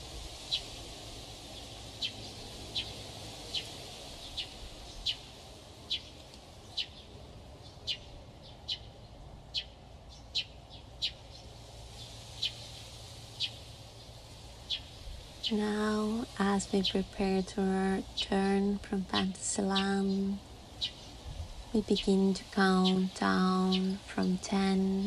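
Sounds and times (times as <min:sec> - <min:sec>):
faint low background noise: 0:00.0 - 0:25.0
bird chirping: 0:00.3 - 0:00.8, 0:01.5 - 0:25.0.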